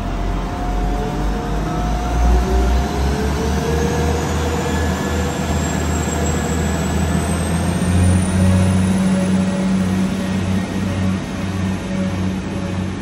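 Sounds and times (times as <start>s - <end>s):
train diesel engines droning: 0.0s - 13.0s.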